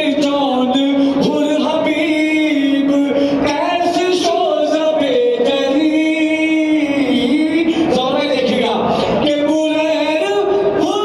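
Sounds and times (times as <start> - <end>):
person chanting a lament: 0.0 - 11.0.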